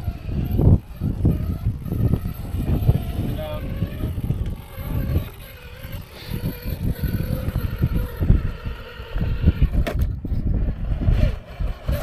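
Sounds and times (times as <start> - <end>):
electric motor whine: 0.0 - 12.0
wind buffeting microphone: 0.0 - 12.0.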